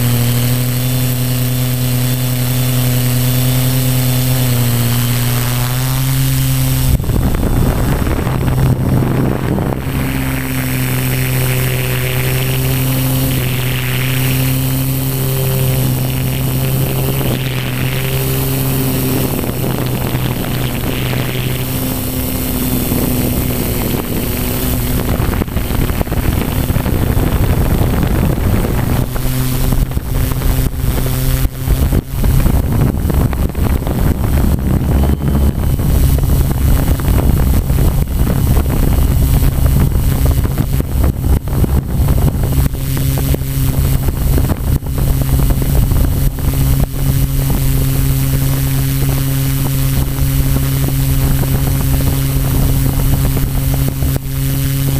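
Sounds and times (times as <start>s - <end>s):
drone propellers humming: 0.0s - 54.9s
wind buffeting microphone: 0.0s - 54.9s.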